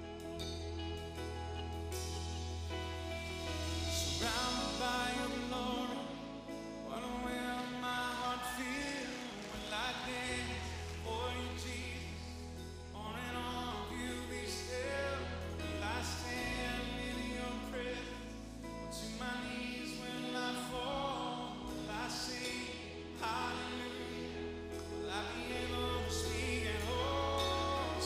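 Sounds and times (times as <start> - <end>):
live gospel hymn music: 0.0 - 28.0.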